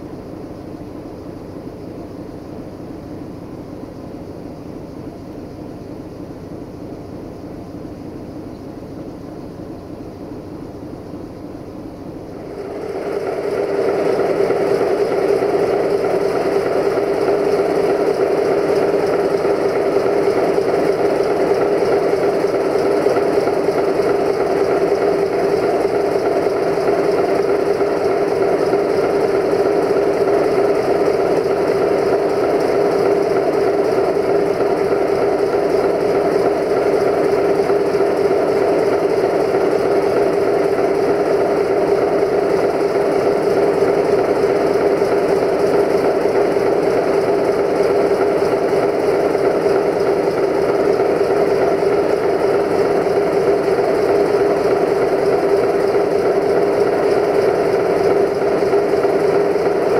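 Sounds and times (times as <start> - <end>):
diesel locomotive idling: 0.0 - 59.9
steady whine: 0.0 - 59.9.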